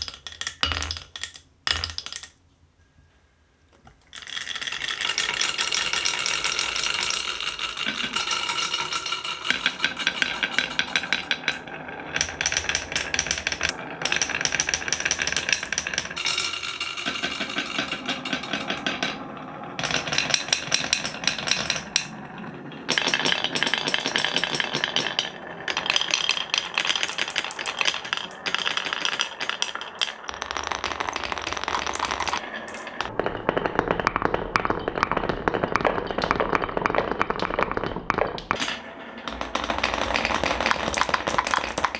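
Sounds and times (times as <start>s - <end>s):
marbles rolling down wooden slopes: 0.0s - 2.4s, 4.0s - 33.2s, 34.6s - 41.9s.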